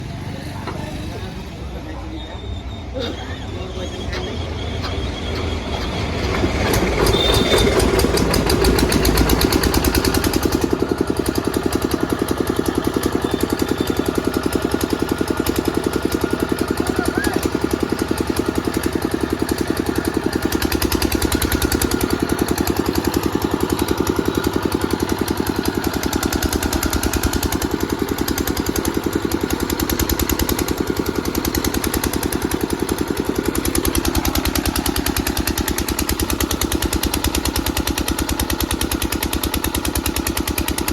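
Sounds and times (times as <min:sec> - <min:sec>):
portable generator engine running: 0:00.0 - 0:40.9.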